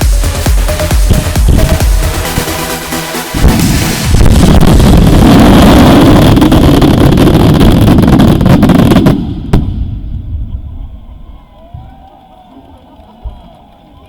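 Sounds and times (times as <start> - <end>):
fireworks bangs and crackling: 0.0 - 11.8.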